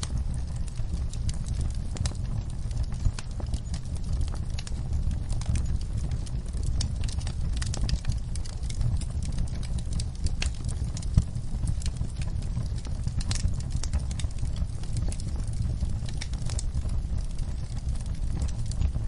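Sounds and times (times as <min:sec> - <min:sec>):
fire crackling and popping: 0:00.0 - 0:19.0
flames rumbling: 0:00.0 - 0:19.0.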